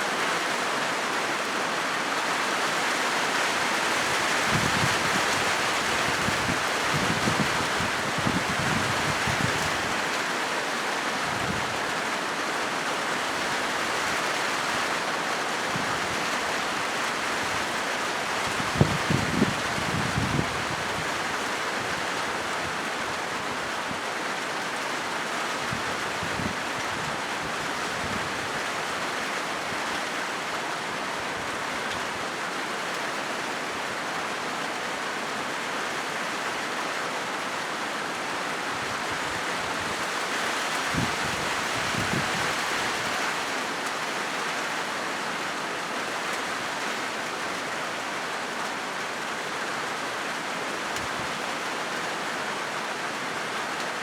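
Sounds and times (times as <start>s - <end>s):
rain on a metal roof: 0.0s - 54.0s.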